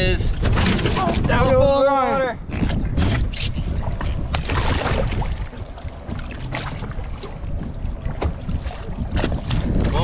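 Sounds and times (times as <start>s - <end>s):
water splashing against boat: 0.0s - 10.0s
wind rumble on microphone: 0.0s - 10.0s.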